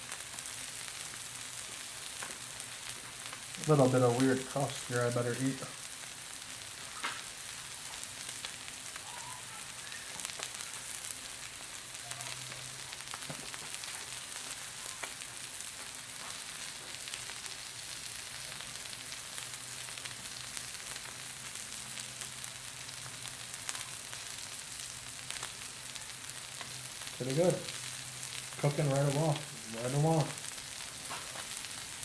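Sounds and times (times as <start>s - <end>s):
fish sizzling on a griddle: 0.0s - 32.0s.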